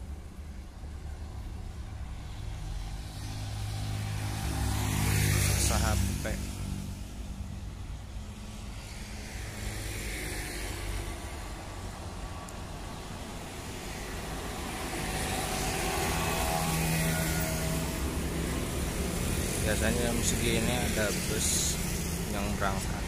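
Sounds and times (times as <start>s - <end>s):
van passing: 0.0s - 23.0s
motorcycles passing: 1.9s - 23.0s.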